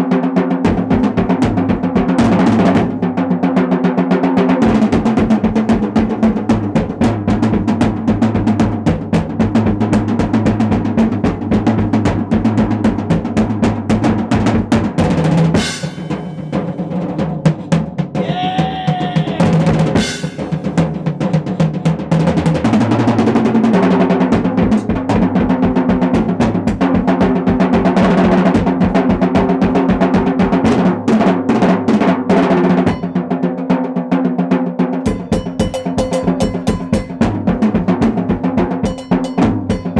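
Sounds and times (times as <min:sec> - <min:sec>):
drum kit solo: 0:00.0 - 0:39.9.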